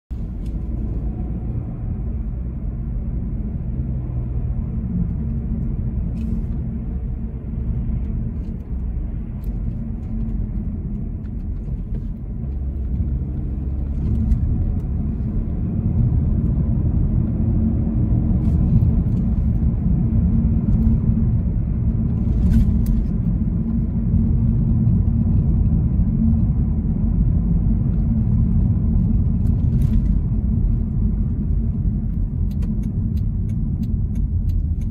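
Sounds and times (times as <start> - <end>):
car engine and tyres rumbling: 0.1 - 34.9.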